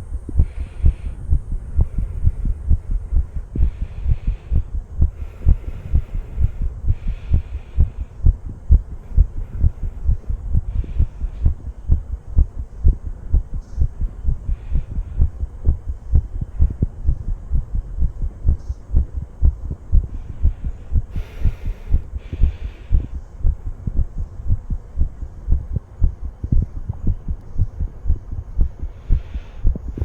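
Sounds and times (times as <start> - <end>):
heartbeat thumps: 0.0 - 30.0.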